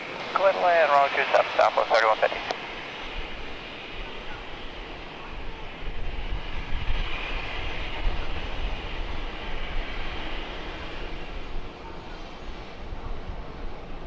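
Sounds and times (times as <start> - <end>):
jet airliner taking off: 0.0 - 14.0.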